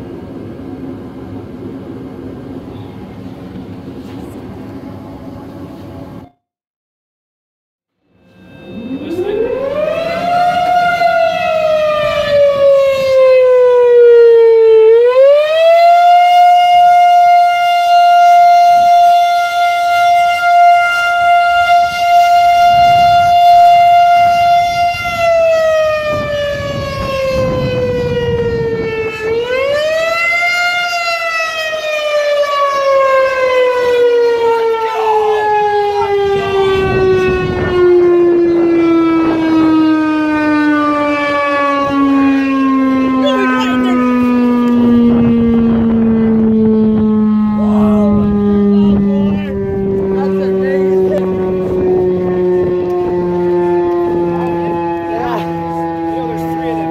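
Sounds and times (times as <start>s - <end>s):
fire siren winding: 8.0s - 56.9s.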